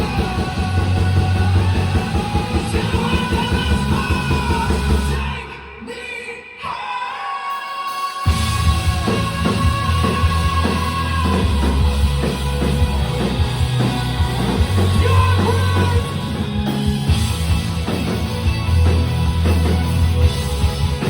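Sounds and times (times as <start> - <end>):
live rock band playing: 0.0 - 5.4, 8.2 - 21.0
heavy bass: 0.0 - 5.6, 8.3 - 21.0
person singing: 0.0 - 16.9.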